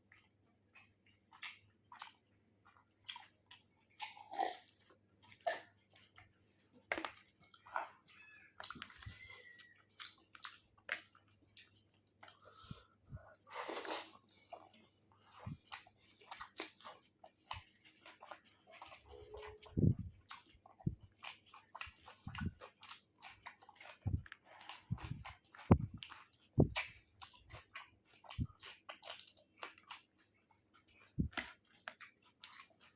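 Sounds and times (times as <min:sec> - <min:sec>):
person chewing food: 0:00.0 - 0:32.9.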